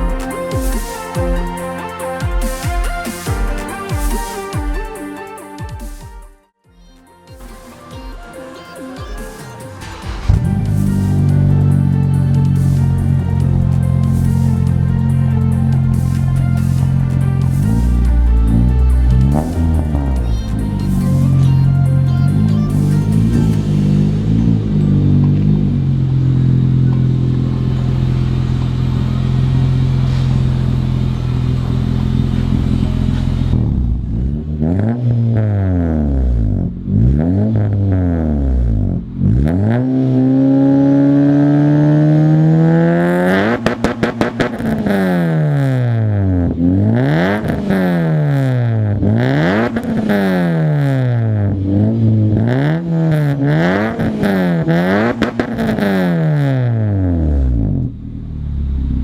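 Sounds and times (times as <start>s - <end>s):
car engine idling and revving: 9.7s - 59.0s.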